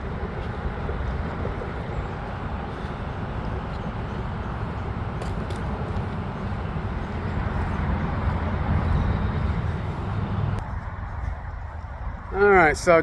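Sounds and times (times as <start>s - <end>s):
freeway traffic noise: 0.0s - 13.0s.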